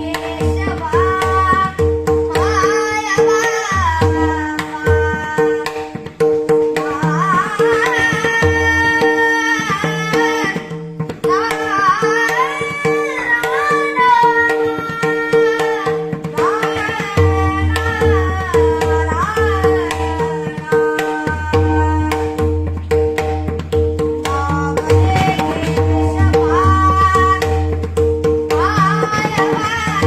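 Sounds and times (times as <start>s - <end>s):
solo voice singing devotional song: 0.0s - 22.8s, 24.0s - 30.0s
tabla beat: 0.0s - 30.0s.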